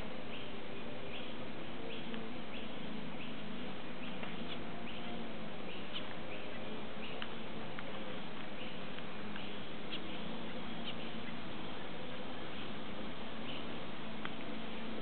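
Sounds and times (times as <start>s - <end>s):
low background hum: 0.0s - 15.0s
finches chirping: 0.3s - 13.8s.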